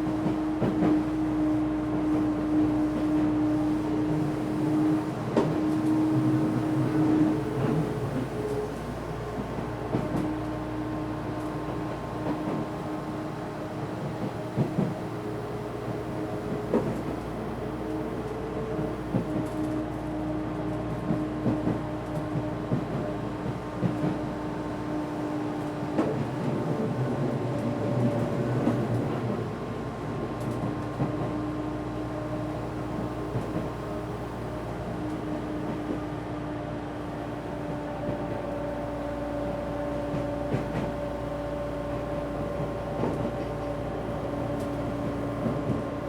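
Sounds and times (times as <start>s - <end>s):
train traction drone: 0.0s - 46.0s.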